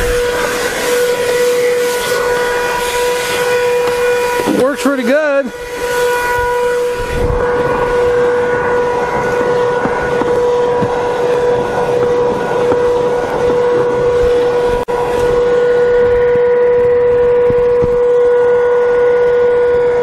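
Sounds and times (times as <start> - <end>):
air rushing through nozzle: 0.0 - 18.1
handheld vacuum motor whine: 0.0 - 20.0.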